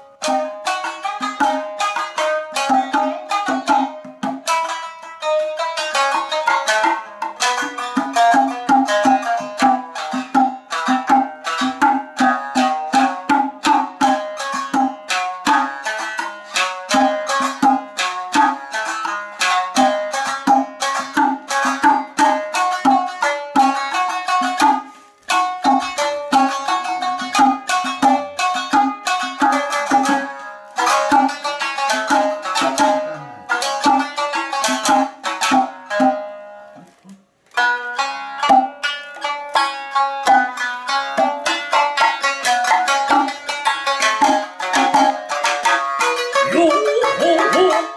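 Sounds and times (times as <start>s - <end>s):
shamisen plucked notes: 0.0s - 36.9s, 37.6s - 47.9s.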